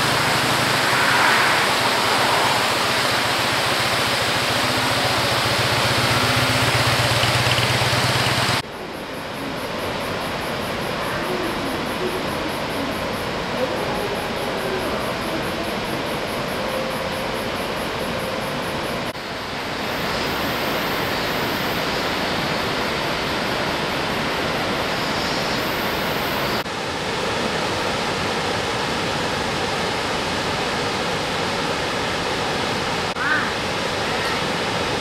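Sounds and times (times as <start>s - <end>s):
rushing water of waterfall and rapids: 0.0s - 35.0s.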